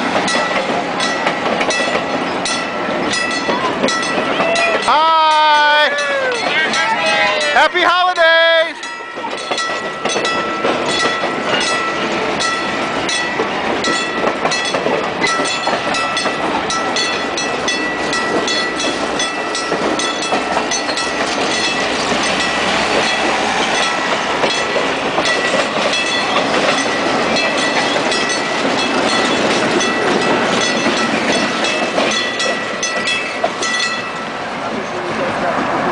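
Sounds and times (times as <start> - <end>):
train wheels clicking over rail joints: 0.0 - 7.6, 8.2 - 34.9.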